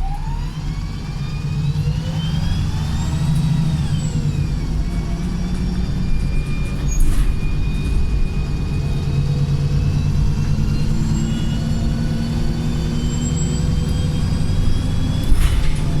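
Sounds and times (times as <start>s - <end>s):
bus engine rumble: 0.0s - 16.0s
gearbox whine: 0.0s - 16.0s.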